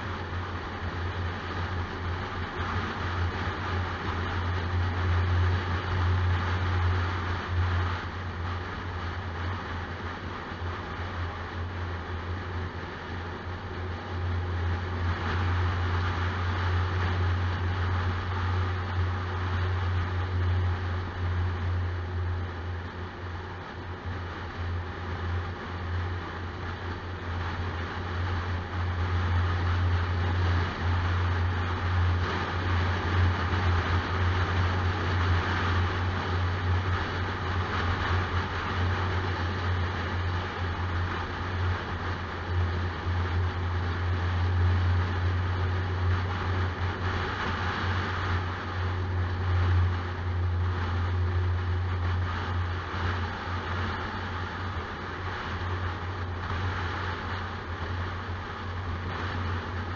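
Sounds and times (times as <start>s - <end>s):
car engine drone: 0.0s - 59.9s.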